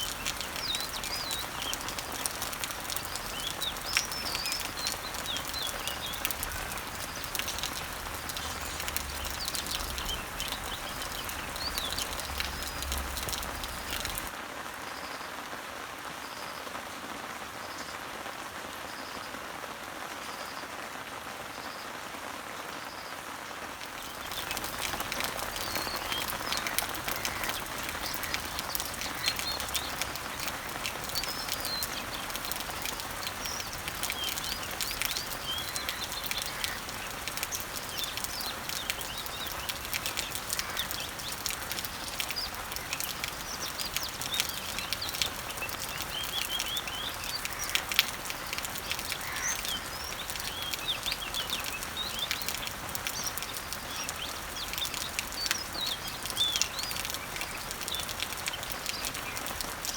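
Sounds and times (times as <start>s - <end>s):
birds chirping: 0.0s - 14.4s, 23.9s - 59.9s
rain falling on leaves: 0.0s - 59.9s.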